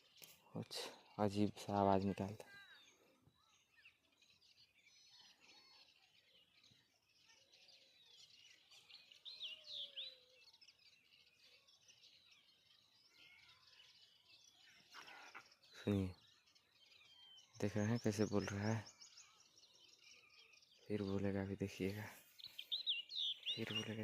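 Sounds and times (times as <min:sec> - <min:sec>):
bird chirps and twitters: 0:00.0 - 0:24.0
swooping bird calls: 0:00.0 - 0:24.0.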